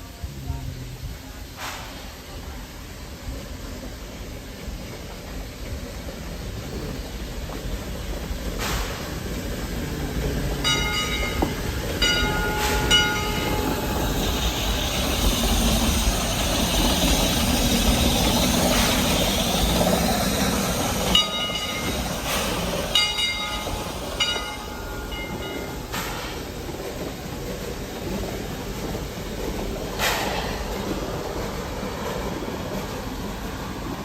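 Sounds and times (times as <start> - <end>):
steam train clattering on rails: 0.0 - 34.0.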